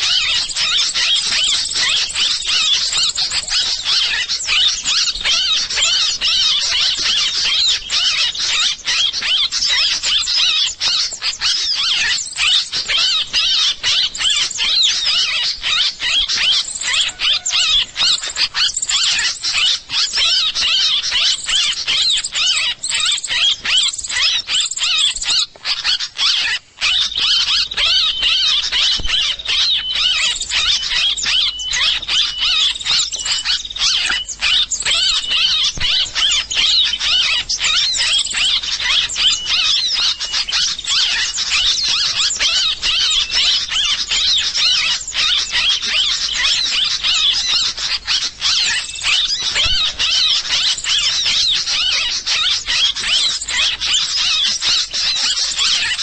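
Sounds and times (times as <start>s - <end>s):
many small birds chirping: 0.0s - 56.0s.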